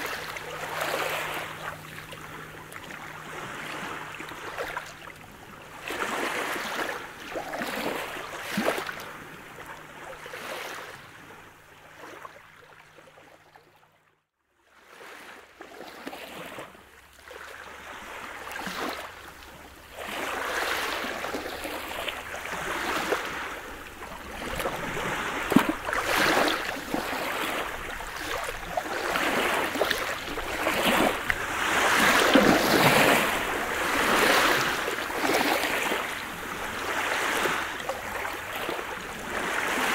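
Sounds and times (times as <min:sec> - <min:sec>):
waves washing over pebbles: 0:00.0 - 0:11.1, 0:17.4 - 0:39.9.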